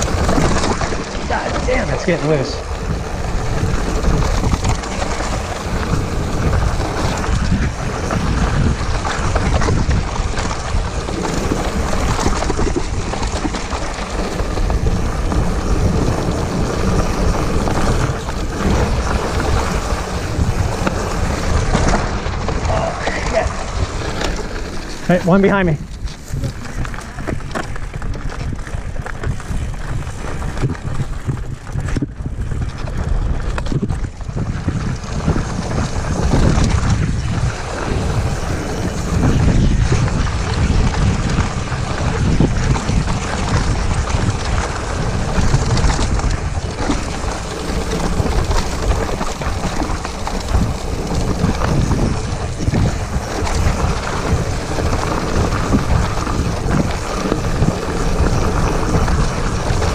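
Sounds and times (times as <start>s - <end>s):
bike tyres rolling over dirt and rock: 0.0s - 59.9s
wind buffeting microphone: 0.0s - 59.9s.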